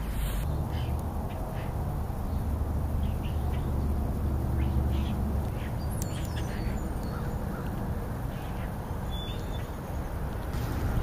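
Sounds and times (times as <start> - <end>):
faint bird chirps: 0.0 - 10.2
wind rumbling on microphone: 0.0 - 11.0.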